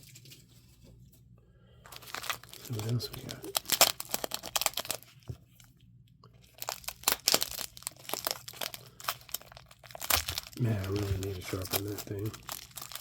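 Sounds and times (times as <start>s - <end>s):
packing material crinkling and tearing: 0.0s - 0.8s, 1.9s - 5.8s, 6.4s - 13.0s.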